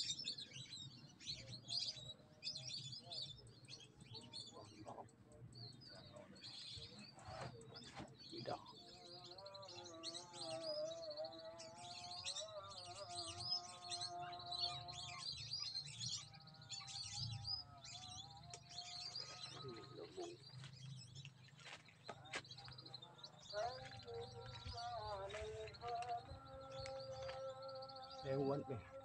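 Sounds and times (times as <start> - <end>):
birds chirping and whistling: 0.0 - 29.0
distant person singing: 1.3 - 29.0.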